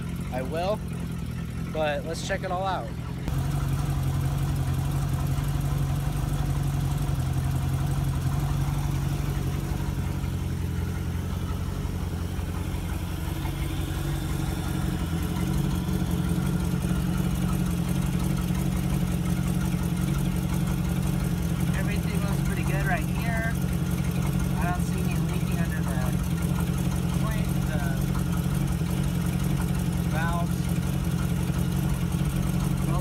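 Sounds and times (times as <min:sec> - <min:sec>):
boat engine idling: 0:00.0 - 0:33.0.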